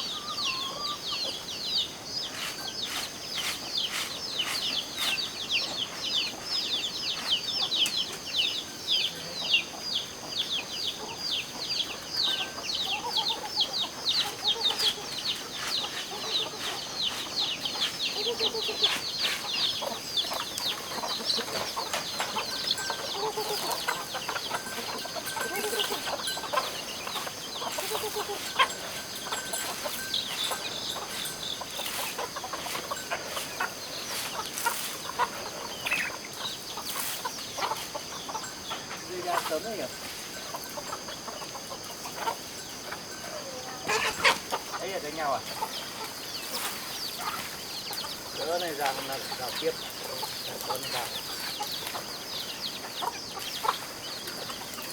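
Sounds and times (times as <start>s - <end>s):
chickens chirping: 0.0s - 54.9s
chickens clucking: 0.0s - 54.9s.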